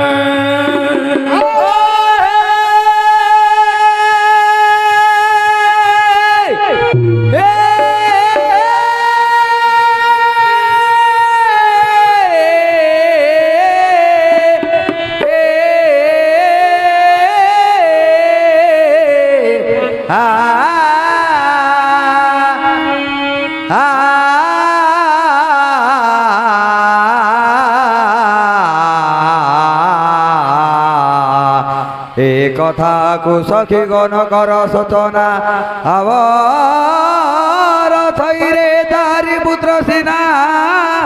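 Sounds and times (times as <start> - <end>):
ornamented sung melody: 0.0 - 41.0.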